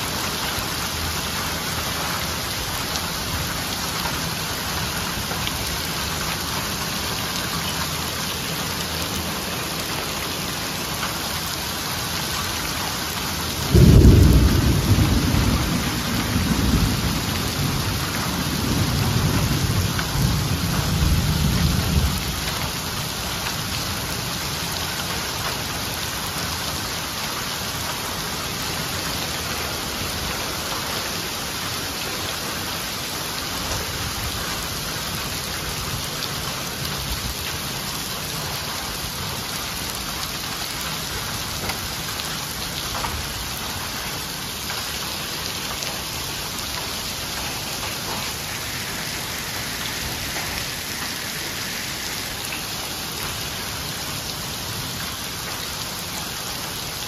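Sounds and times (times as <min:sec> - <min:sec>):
heavy rain and hail pelting pavement: 0:00.0 - 0:57.0.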